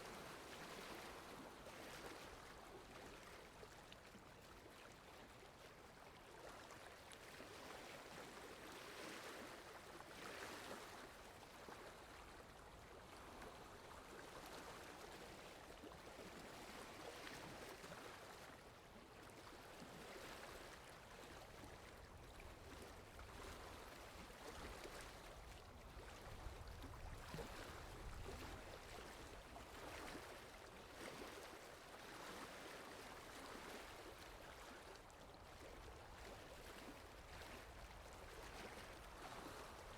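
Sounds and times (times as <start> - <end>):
water lapping against shore: 0.0 - 39.9.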